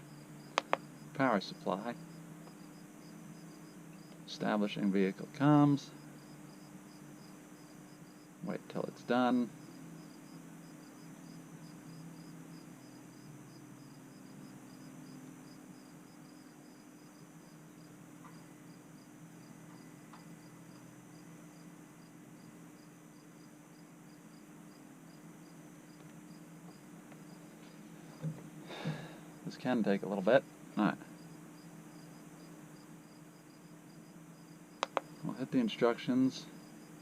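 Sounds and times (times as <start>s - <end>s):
cricket chirping: 0.0s - 29.8s, 30.4s - 37.0s
faint low hum: 0.0s - 37.0s.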